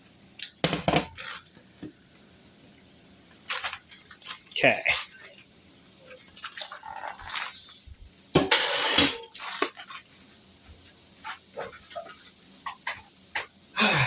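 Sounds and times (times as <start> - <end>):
frying pan sizzling: 0.0 - 14.0.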